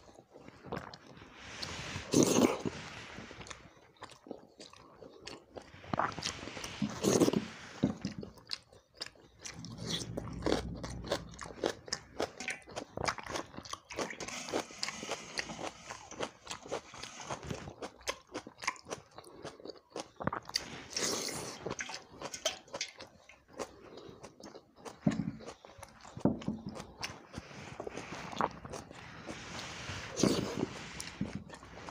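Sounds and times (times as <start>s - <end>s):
person chewing food: 0.0s - 31.9s.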